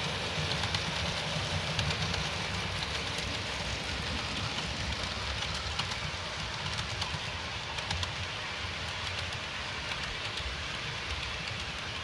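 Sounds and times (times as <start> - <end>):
model train wheels rumbling on track: 0.0 - 12.0.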